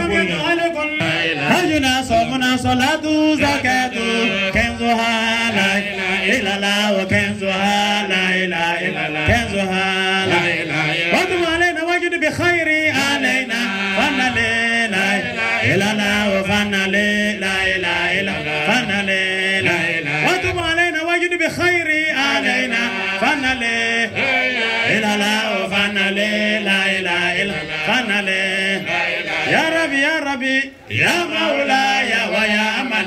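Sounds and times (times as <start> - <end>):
man chanting into a microphone: 0.0 - 33.0.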